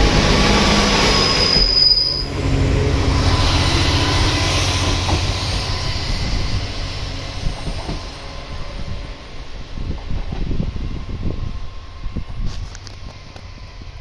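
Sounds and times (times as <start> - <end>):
diesel railcar engine rumble: 0.0 - 14.0
train wheel squeal: 0.4 - 8.9, 10.2 - 14.0.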